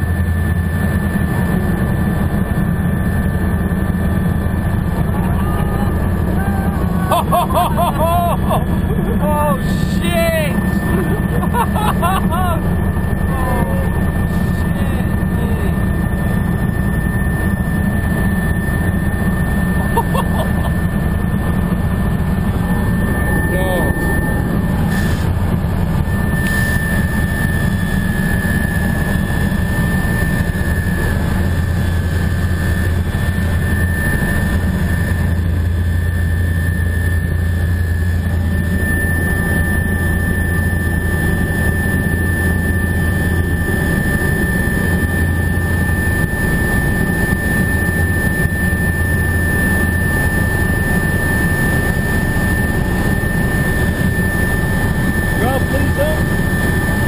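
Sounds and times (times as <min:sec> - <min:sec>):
helicopter engine and rotors drone: 0:00.0 - 0:57.0
high whine: 0:00.0 - 0:57.0.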